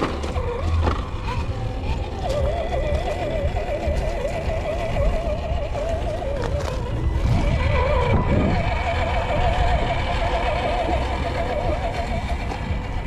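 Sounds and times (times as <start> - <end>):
electric motor whining: 0.0 - 13.0
low rumble: 0.0 - 13.0
tyres crunching on gravel: 0.0 - 13.0.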